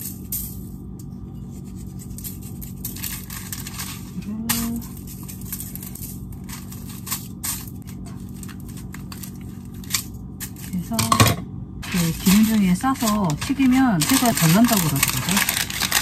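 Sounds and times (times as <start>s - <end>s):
steady low hum: 0.0s - 16.0s
foil crinkling: 1.7s - 11.0s, 11.8s - 16.0s.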